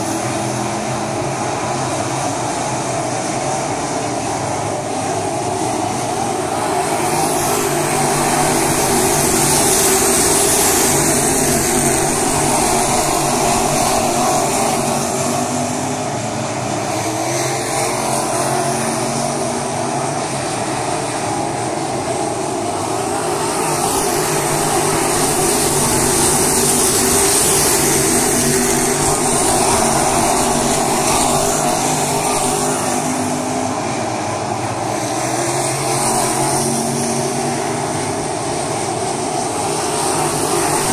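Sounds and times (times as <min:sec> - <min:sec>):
race car engines droning: 0:00.0 - 0:40.9.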